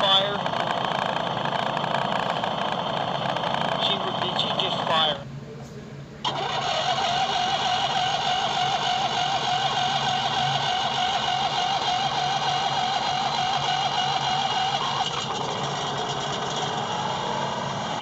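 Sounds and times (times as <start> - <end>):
lawn tractor engine droning: 0.0 - 5.2, 6.2 - 18.0.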